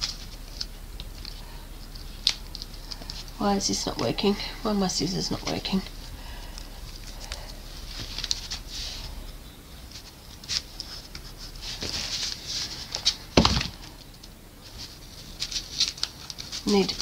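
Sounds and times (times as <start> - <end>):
masking tape crinkling: 0.0 - 17.0.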